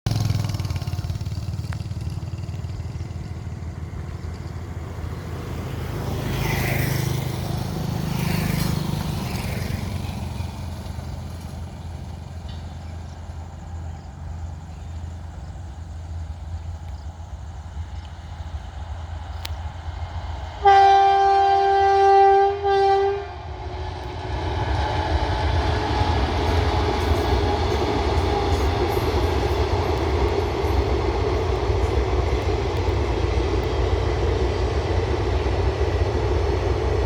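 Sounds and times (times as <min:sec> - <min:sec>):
higher-pitched train sounds: 0:00.1 - 0:37.0
train rumbling: 0:00.1 - 0:37.0.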